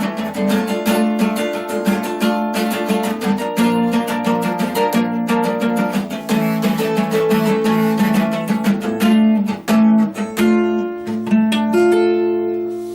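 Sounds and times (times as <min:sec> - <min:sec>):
guitar strumming chords: 0:00.0 - 0:12.9.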